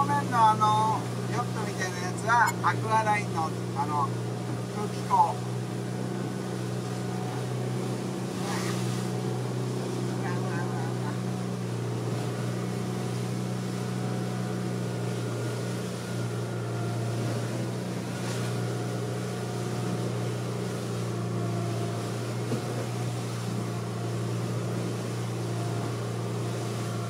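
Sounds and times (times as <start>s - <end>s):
motorboat engine droning: 0.0s - 27.0s
rushing water: 0.0s - 27.0s
wind: 0.0s - 27.0s.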